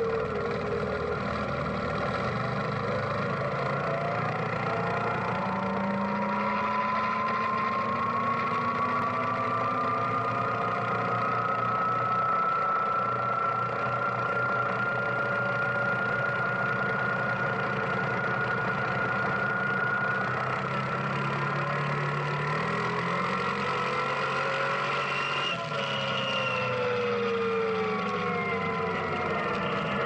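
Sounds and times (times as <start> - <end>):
quad bike engine running: 0.0 - 30.0
thin whine rising in pitch: 0.0 - 30.0.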